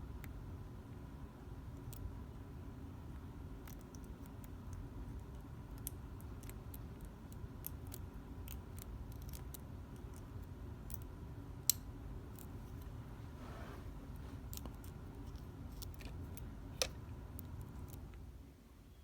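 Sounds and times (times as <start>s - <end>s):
low steady background hum: 0.0s - 19.0s.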